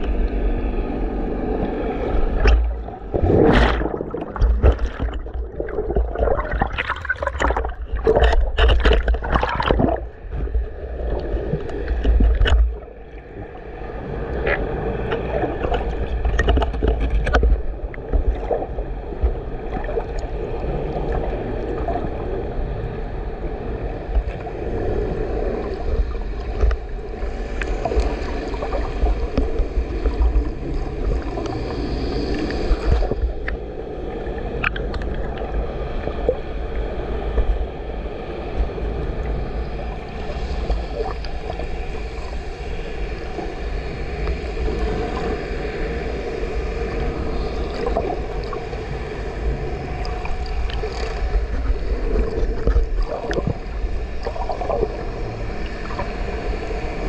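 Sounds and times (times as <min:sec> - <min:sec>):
low underwater rumble: 0:00.0 - 0:57.0
water sloshing and gurgling: 0:00.0 - 0:57.0.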